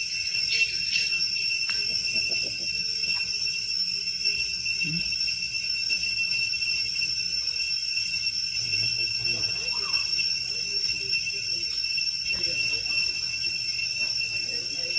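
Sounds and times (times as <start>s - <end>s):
forest insects droning: 0.0s - 14.9s.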